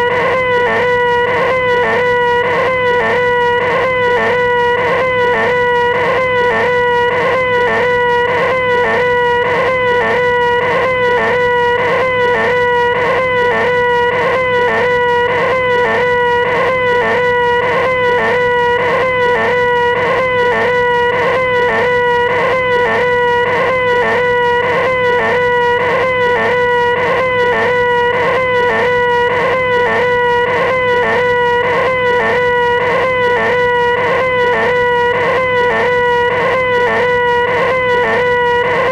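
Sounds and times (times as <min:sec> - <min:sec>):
man whining nasal tone: 0:00.0 - 0:38.9.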